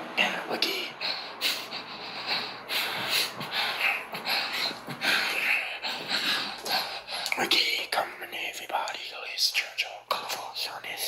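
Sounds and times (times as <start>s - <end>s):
person whispering: 0.1s - 11.0s.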